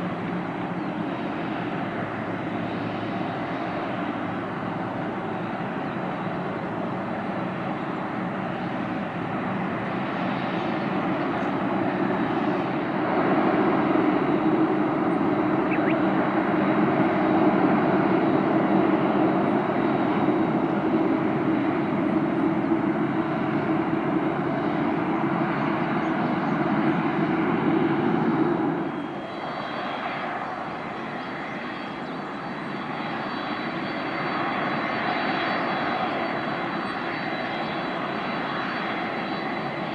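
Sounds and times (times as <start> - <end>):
jet engines rushing: 0.0 - 39.9.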